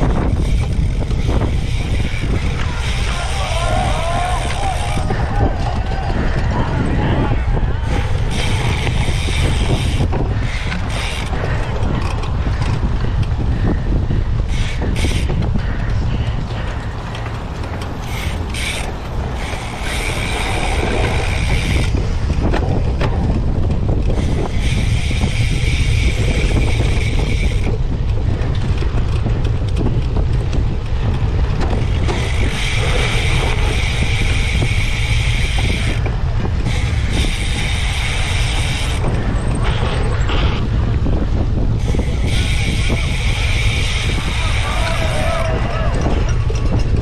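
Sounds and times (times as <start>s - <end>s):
bike freehub ratchet buzzing: 0.0s - 6.4s, 7.7s - 47.0s
rumble of wind and terrain: 0.0s - 47.0s.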